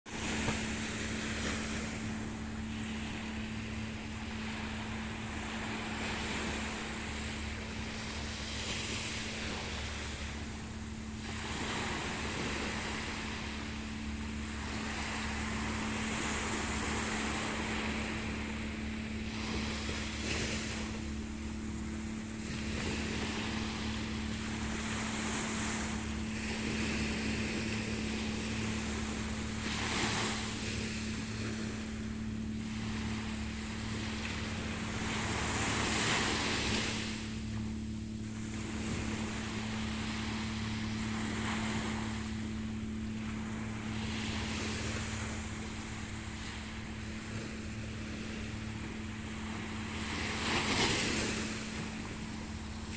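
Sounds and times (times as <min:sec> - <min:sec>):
machine drone humming: 0:00.0 - 0:52.9
waves: 0:00.0 - 0:52.9
wind: 0:00.0 - 0:52.9.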